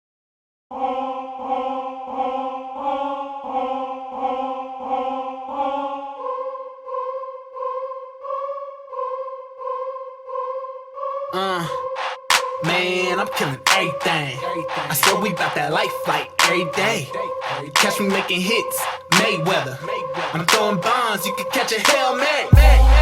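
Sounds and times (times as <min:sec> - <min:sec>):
pulsing choir-like synth chord: 0:00.7 - 0:23.0.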